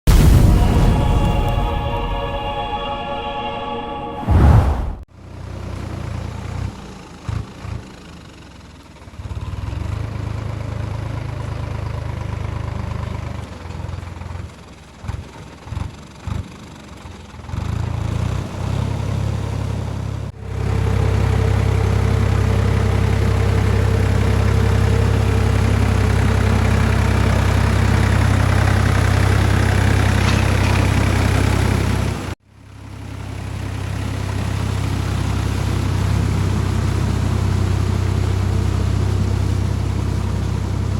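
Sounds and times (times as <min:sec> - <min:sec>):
tractor diesel engine running: 0:05.1 - 0:40.9.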